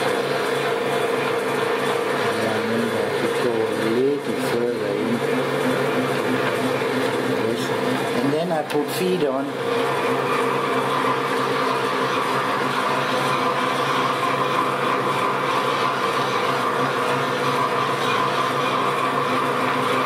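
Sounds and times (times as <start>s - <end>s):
metal lathe humming and whining: 0.0s - 20.0s.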